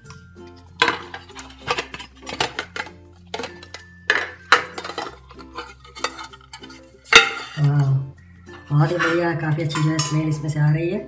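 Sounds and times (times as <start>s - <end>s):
background music: 0.0s - 11.0s
metal tin and glass plate clinking: 0.1s - 11.0s.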